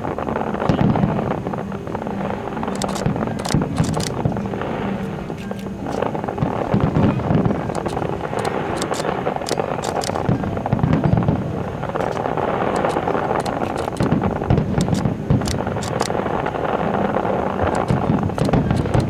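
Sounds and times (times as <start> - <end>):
rumble of firework bursts: 0.0 - 19.0
sharp crackles and pops: 0.1 - 19.0.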